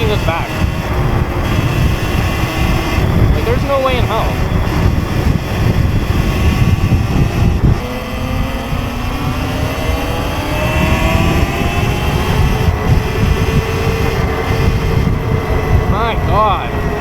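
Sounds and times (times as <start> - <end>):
electric motor whining: 0.0 - 17.0
wind rumble on microphone: 0.0 - 17.0.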